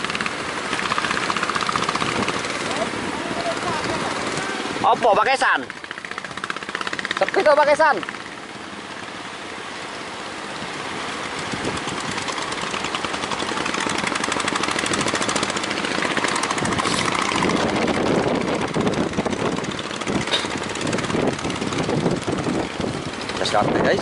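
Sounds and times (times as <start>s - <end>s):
outboard engine running: 0.0s - 24.0s.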